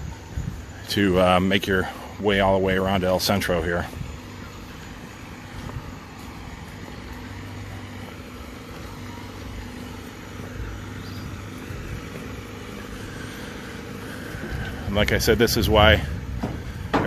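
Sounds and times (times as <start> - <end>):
low mechanical hum: 0.0 - 17.0
outdoor background noise: 0.0 - 17.0.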